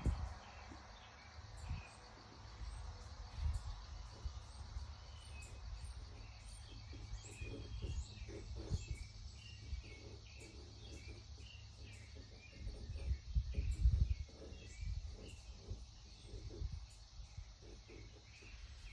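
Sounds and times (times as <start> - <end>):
high insect hum: 0.0 - 18.9
small birds chirping: 0.0 - 18.9.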